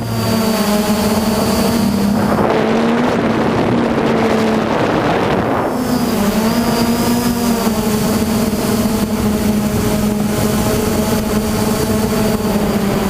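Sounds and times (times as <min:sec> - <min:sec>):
drone motors and propellers humming: 0:00.0 - 0:13.0
wind buffeting microphone: 0:00.0 - 0:13.0.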